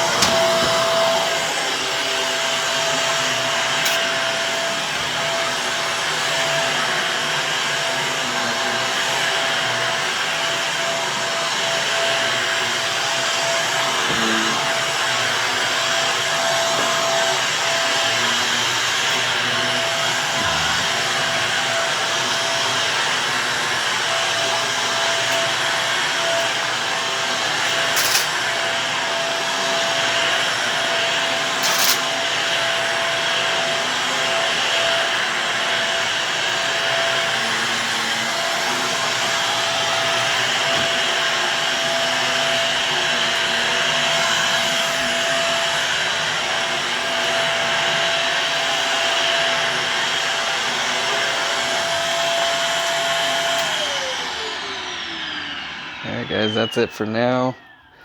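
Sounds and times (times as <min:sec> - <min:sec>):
vacuum cleaner running over carpet: 0:00.0 - 0:58.0.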